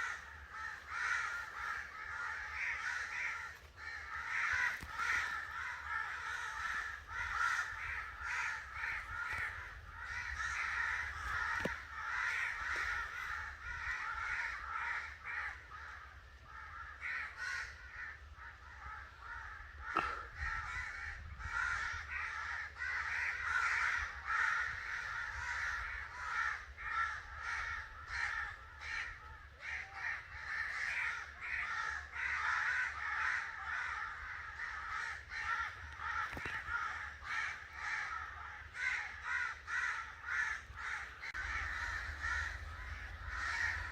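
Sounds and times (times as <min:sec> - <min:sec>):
crows cawing: 0:00.0 - 0:43.9.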